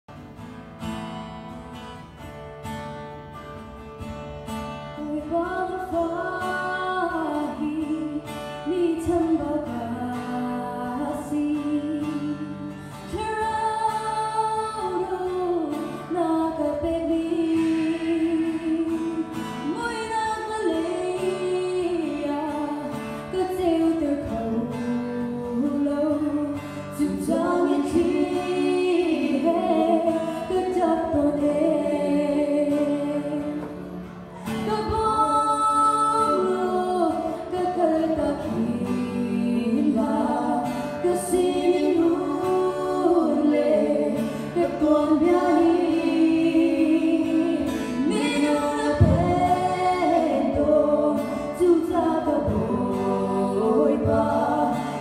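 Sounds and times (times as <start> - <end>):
acoustic guitar playing: 0.1 - 55.0
woman singing a hymn: 5.0 - 55.0.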